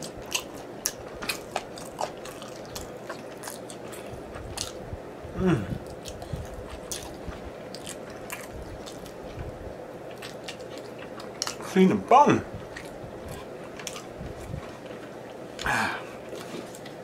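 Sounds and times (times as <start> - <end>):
person chewing: 0.0 - 4.8, 5.4 - 11.7, 12.6 - 17.0.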